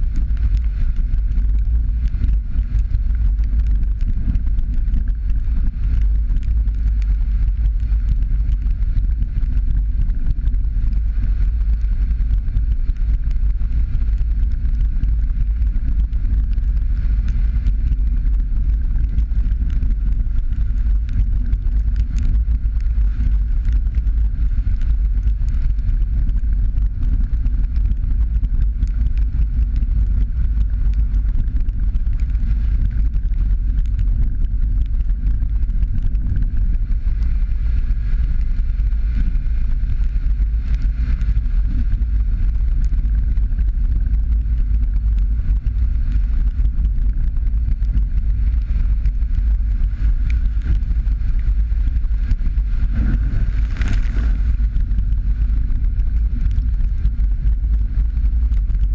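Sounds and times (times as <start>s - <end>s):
engine and tyre rumble: 0.0s - 58.9s.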